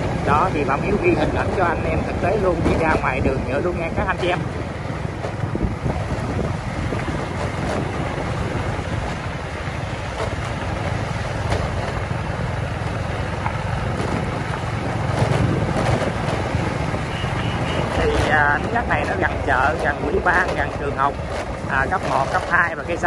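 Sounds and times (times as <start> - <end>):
motorbike running: 0.0 - 23.0
wind rumble on microphone: 0.0 - 23.0.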